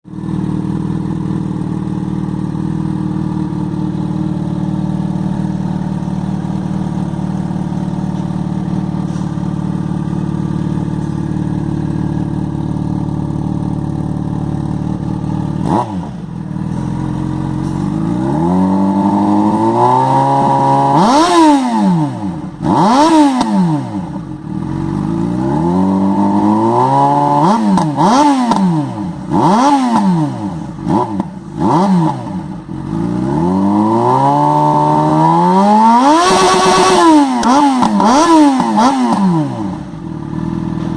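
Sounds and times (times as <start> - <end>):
motorcycle engine revving: 0.1 - 40.9.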